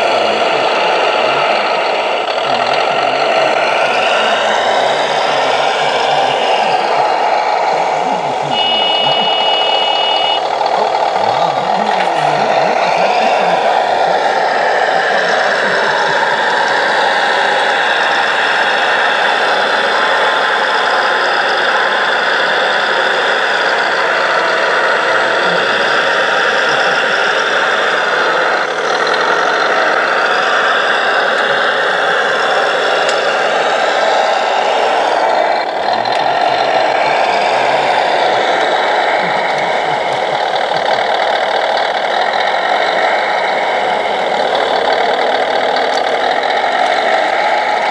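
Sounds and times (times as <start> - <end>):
simulated diesel engine sound: 0.0 - 47.9.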